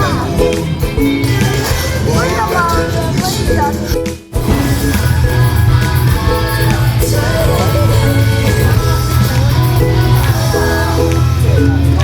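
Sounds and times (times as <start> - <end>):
heavy bass line: 0.0 - 12.0
person singing: 0.0 - 12.0.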